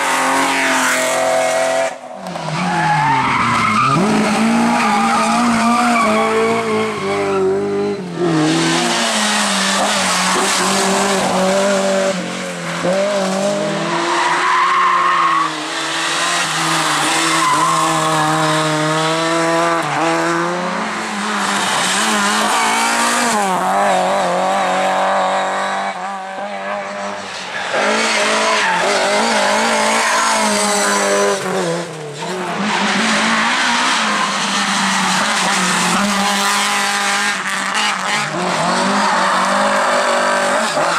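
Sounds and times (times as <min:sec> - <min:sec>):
rally car engines revving: 0:00.0 - 0:40.9
tyres squealing and skidding: 0:02.2 - 0:11.6, 0:13.8 - 0:19.0, 0:19.8 - 0:36.8, 0:37.4 - 0:40.9.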